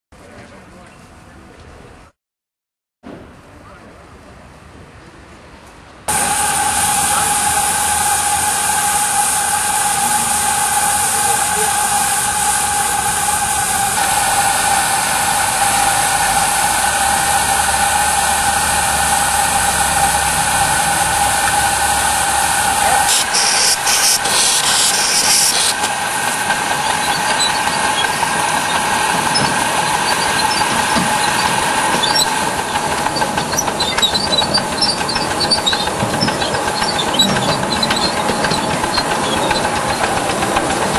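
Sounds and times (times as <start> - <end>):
sharp blast of steam: 6.1 - 40.9
steam locomotive hissing: 6.1 - 40.9.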